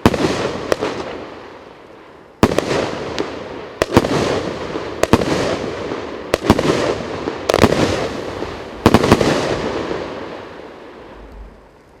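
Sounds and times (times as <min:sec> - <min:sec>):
firework bangs: 0:00.0 - 0:01.6, 0:02.4 - 0:12.0.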